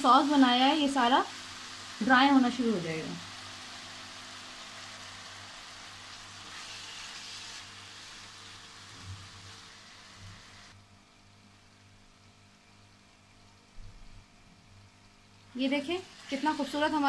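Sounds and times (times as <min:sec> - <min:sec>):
sauce sizzling in a wok: 0:00.0 - 0:13.7, 0:14.8 - 0:17.0.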